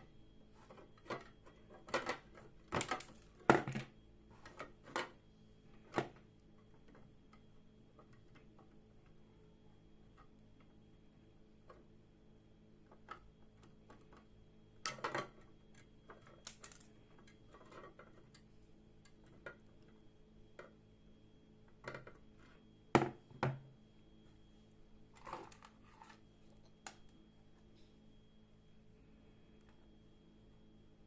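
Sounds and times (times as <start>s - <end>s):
faint electrical hum and whine: 0.0s - 31.0s.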